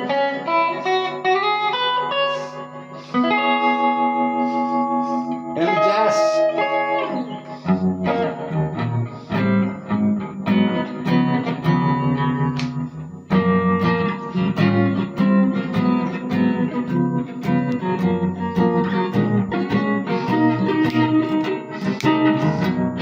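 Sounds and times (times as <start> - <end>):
clean electric guitar jazz chords: 0.0 - 23.0.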